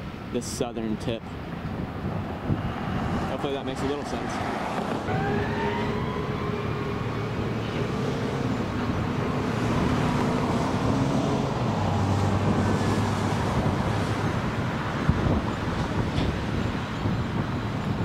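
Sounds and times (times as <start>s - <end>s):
outdoor noise: 0.0s - 18.0s
vehicle engines running: 0.0s - 18.0s
lower engine note: 3.1s - 18.0s.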